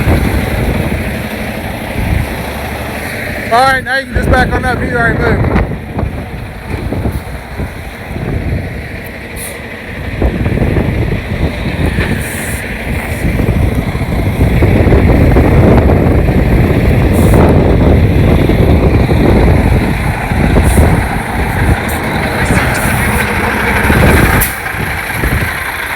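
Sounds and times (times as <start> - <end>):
diesel truck engine rumbling: 0.0 - 25.9.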